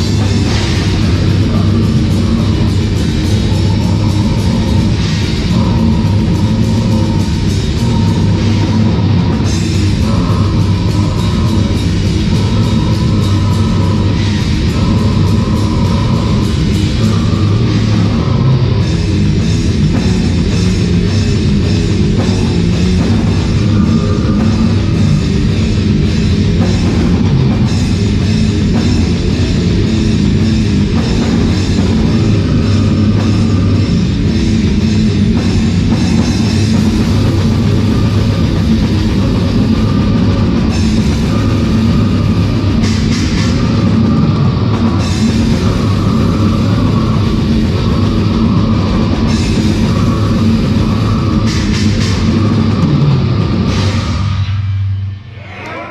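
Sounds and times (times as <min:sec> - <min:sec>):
fast drum hits: 0:00.0 - 0:54.2
death metal band playing: 0:00.0 - 0:55.9
distorted electric guitars: 0:00.0 - 0:55.9.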